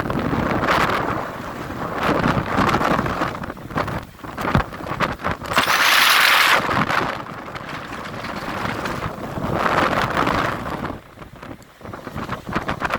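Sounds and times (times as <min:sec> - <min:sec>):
wind gusting across microphone: 0:00.0 - 0:12.9.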